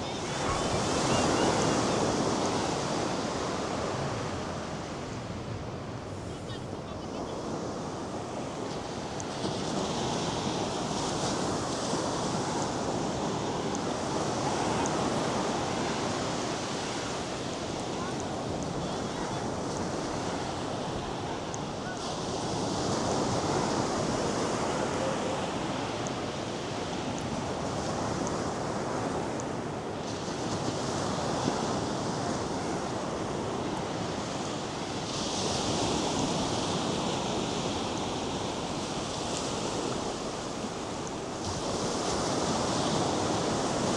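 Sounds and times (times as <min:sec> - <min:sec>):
surf breaking on beach: 0:00.0 - 0:43.9
waves hissing up shore: 0:00.0 - 0:43.9.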